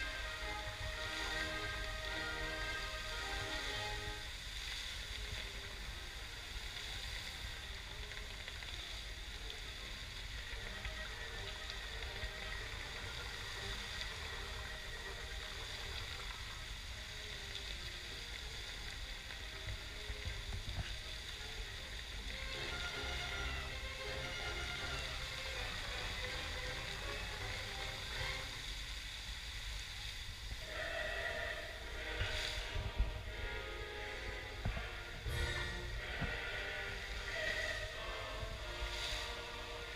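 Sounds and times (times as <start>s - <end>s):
faint music: 0.0s - 39.9s
fountain water jets splashing: 0.0s - 39.9s.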